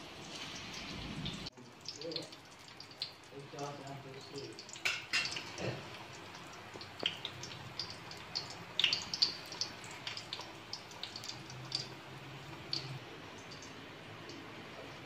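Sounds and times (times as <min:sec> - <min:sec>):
patties sizzling in oil: 0:00.0 - 0:15.0.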